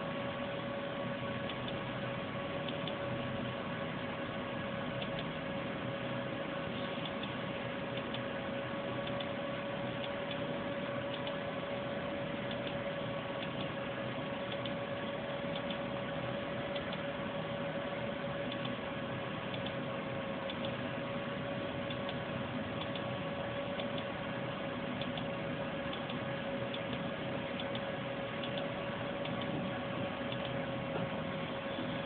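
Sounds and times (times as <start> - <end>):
constant hum tone: 0.0 - 32.0.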